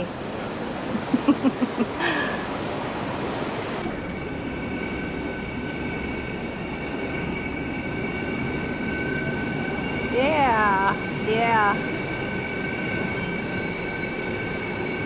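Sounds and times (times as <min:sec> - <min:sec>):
thin high whine: 0:00.0 - 0:15.0.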